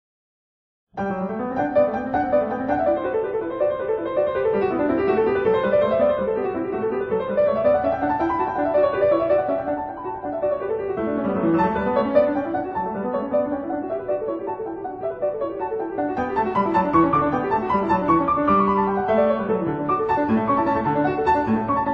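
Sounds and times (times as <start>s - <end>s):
piano music: 1.0s - 21.9s.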